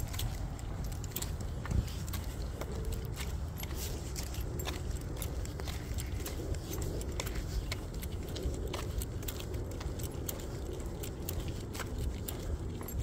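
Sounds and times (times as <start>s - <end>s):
dog leash clip jingling: 0.0s - 13.0s
footsteps on pavement: 0.0s - 13.0s.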